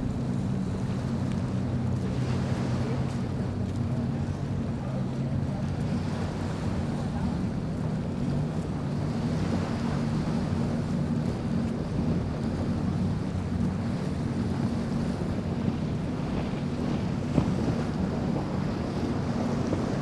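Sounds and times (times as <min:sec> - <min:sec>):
powerboat engines droning: 0:00.0 - 0:20.0
rush of wake and surf: 0:00.0 - 0:20.0
wind buffeting microphone: 0:00.0 - 0:20.0.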